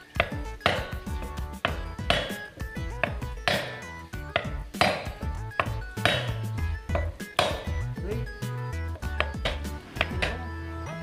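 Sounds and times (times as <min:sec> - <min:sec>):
hammer striking steel: 0:00.0 - 0:07.9, 0:09.1 - 0:10.4
background music: 0:00.0 - 0:11.0.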